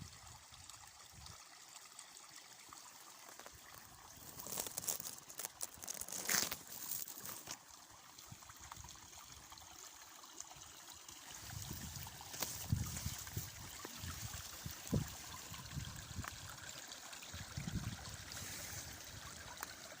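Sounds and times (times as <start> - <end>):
brook flowing and trickling: 0.0 - 20.0.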